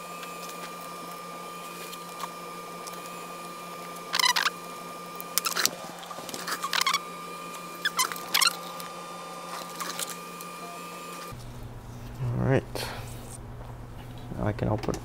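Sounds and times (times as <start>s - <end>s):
electrical hum with high whine: 0.0s - 15.0s.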